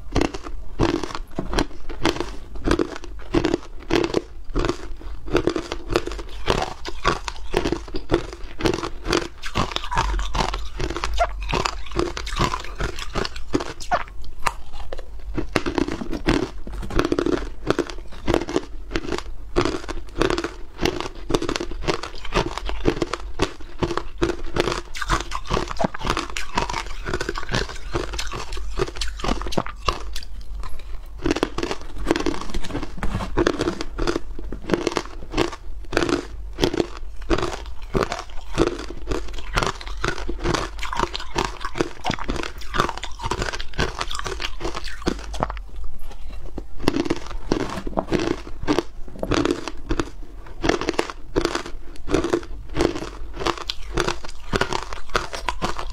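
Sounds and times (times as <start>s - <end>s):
ice being crunched by teeth: 0.1s - 45.6s, 46.8s - 55.9s.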